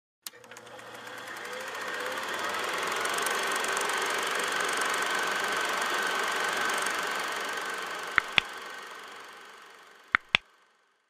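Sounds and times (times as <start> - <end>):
film projector clattering: 0.2 - 10.3.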